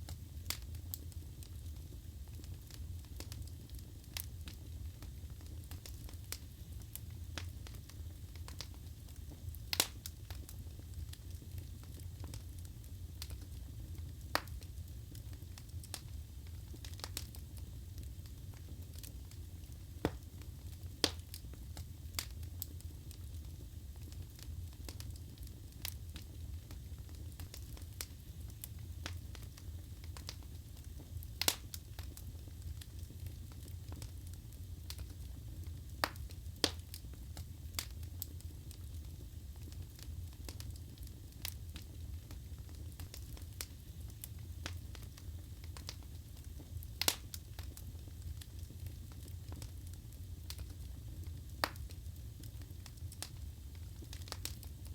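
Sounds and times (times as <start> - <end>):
fire flames rumbling: 0.1 - 54.9
logs crackling and popping: 0.1 - 54.9.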